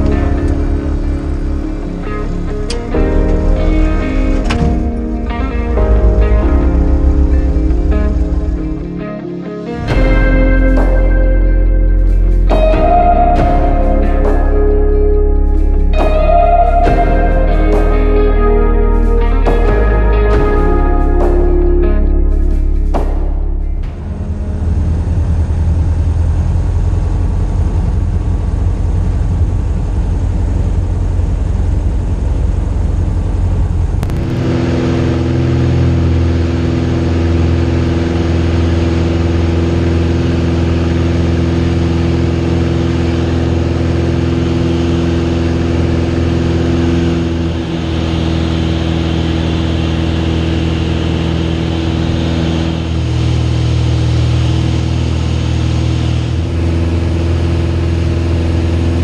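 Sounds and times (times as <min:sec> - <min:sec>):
light aircraft engine and propeller: 0:00.0 - 0:16.6, 0:23.8 - 0:59.0.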